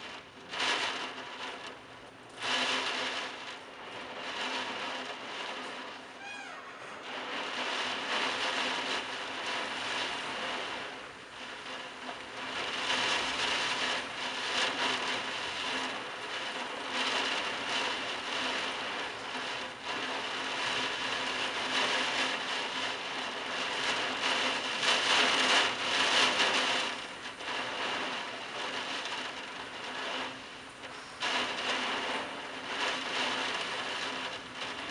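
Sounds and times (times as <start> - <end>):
heavy wind-driven rain: 0.0 - 34.9.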